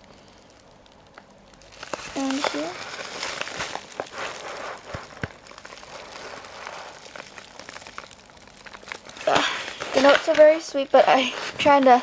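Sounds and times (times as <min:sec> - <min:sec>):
paper and package rustling: 0:01.6 - 0:12.0.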